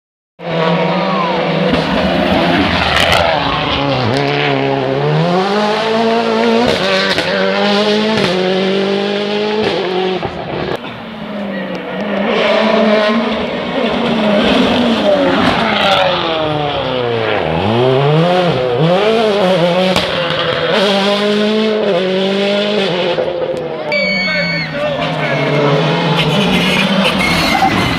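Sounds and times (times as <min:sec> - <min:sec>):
rally car engine revving: 0:00.4 - 0:27.9.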